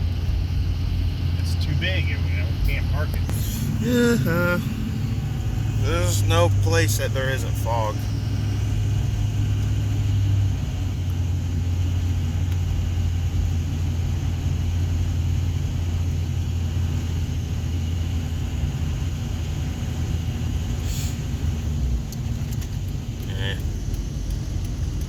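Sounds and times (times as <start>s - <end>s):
vehicle engine and tyres droning: 0.0s - 25.0s.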